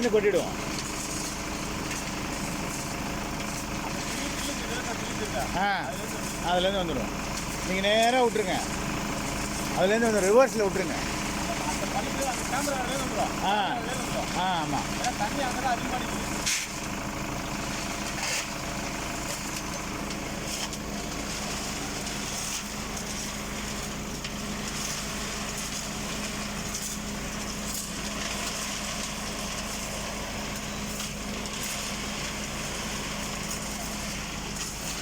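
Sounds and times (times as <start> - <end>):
concrete mixer turning: 0.0 - 35.0
tractor engine running: 0.0 - 35.0.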